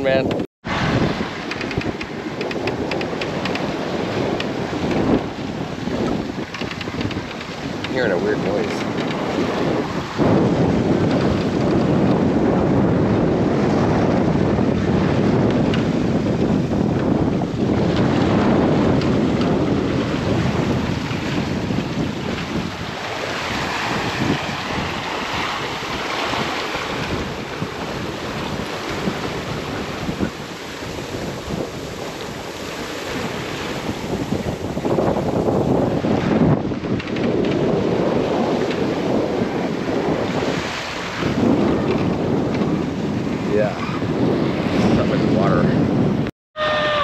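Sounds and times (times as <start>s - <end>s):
rushing water: 0.0s - 45.6s
waves washing: 0.0s - 47.0s
wind buffeting microphone: 0.0s - 47.0s.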